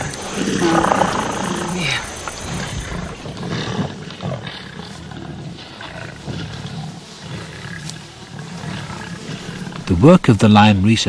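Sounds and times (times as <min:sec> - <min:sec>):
lion rumbling: 0:00.0 - 0:11.0.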